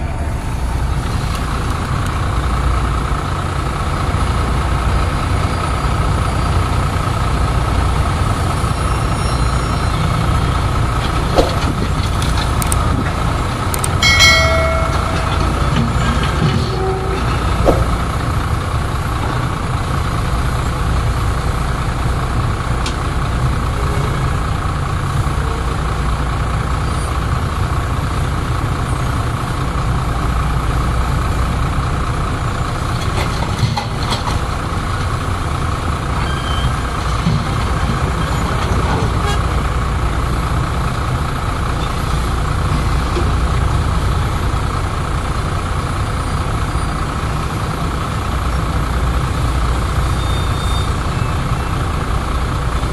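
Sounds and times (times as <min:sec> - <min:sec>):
heavy diesel engines droning: 0:00.0 - 0:52.9.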